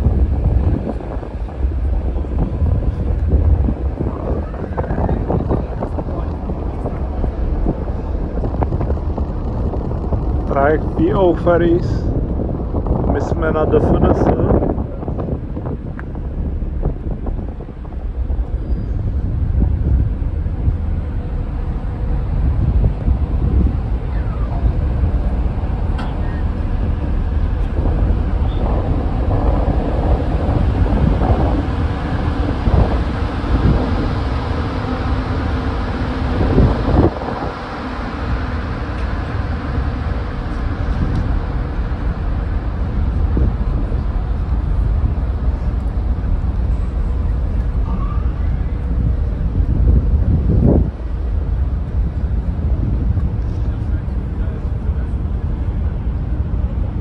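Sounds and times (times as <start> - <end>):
ferry engine rumble: 0.0 - 57.0
propellers churning water: 0.0 - 57.0
wind buffeting microphone: 0.0 - 57.0.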